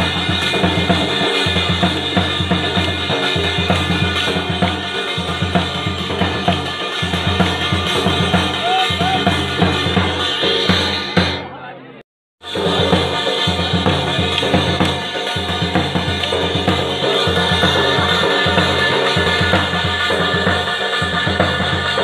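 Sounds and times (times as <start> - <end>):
drums beaten in driving rhythm: 0.0 - 11.8, 12.4 - 22.0.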